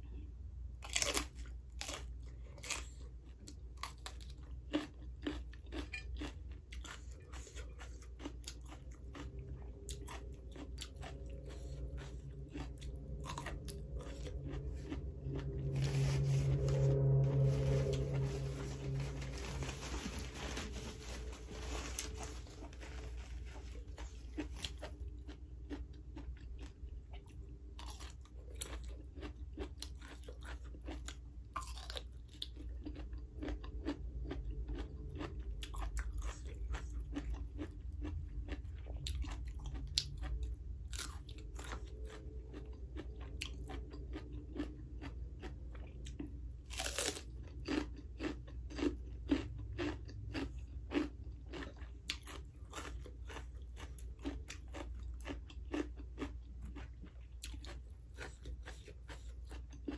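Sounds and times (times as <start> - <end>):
chewing crisp vegetables: 0.0 - 59.9.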